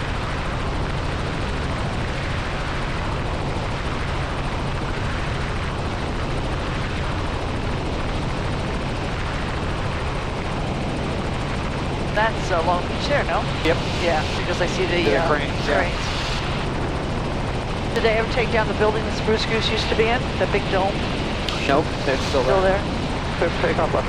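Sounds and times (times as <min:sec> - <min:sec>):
helicopter rotor and engine drone: 0:00.0 - 0:24.0.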